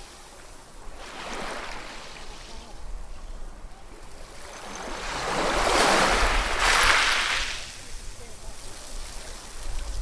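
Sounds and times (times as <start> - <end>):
ocean waves washing on a shore: 0.0 - 10.0.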